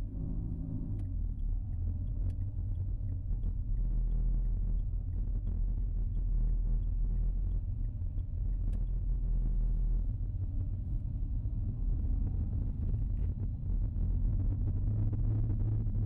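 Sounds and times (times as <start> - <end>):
car cabin rumble while driving: 0.0 - 16.0.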